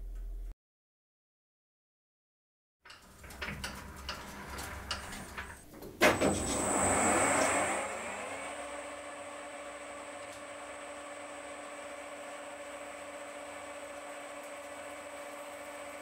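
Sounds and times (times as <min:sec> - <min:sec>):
lathe running with clicks: 0:02.9 - 0:16.0.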